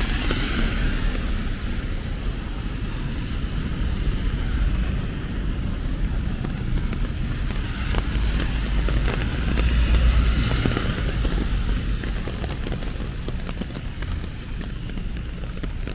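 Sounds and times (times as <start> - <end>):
rain hiss: 0.0 - 15.9
traffic rumble: 0.0 - 15.9
vehicle passing on wet road: 0.0 - 15.9.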